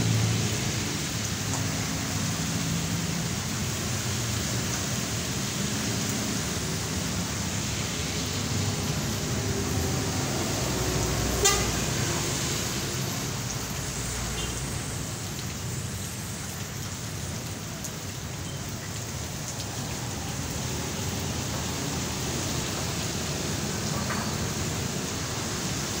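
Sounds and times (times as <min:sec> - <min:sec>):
heavy rain: 0:00.0 - 0:26.0
wet tyres on road: 0:00.0 - 0:26.0.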